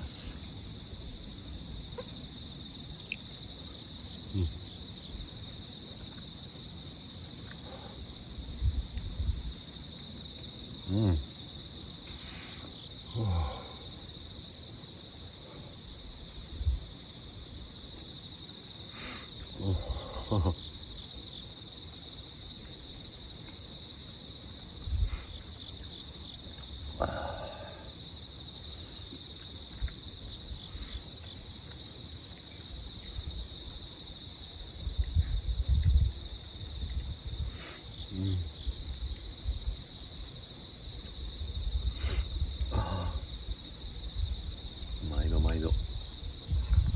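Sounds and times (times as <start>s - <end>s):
crickets and insects chirring: 0.0s - 46.9s.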